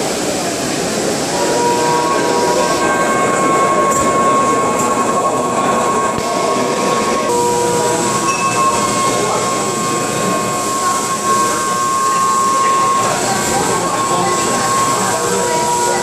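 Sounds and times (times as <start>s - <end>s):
high spindle whine: 0.9s - 16.0s
milling machine cutting metal: 0.9s - 16.0s
low steady tone: 1.4s - 16.0s.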